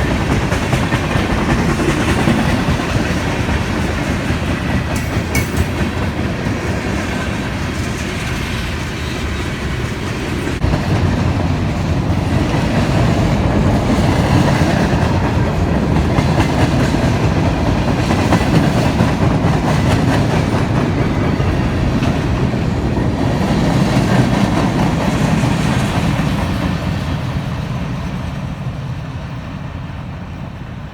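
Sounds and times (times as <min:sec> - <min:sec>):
train wheels clacking on rails: 0:00.0 - 0:30.9.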